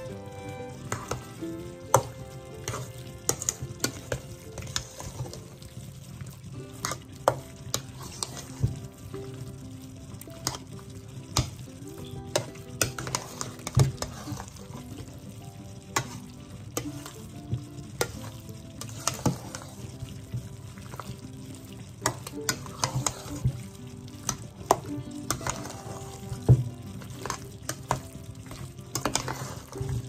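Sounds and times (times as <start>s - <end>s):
wet mixing noise: 0.0s - 30.0s.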